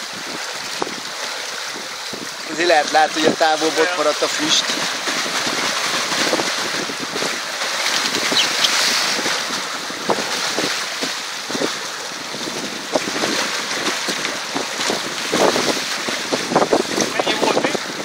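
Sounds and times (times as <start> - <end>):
rush of boat wake: 0.0 - 18.0
small water splashes: 0.0 - 18.0
wind buffeting microphone: 0.0 - 18.0.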